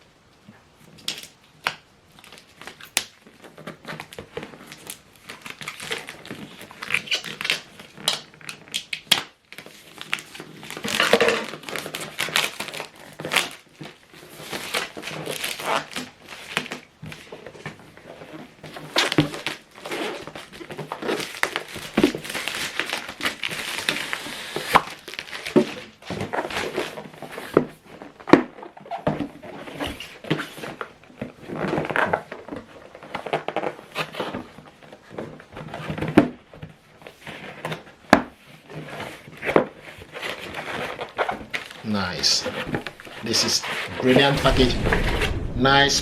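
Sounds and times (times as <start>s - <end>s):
packaging rustling and crinkling: 2.1s - 45.5s.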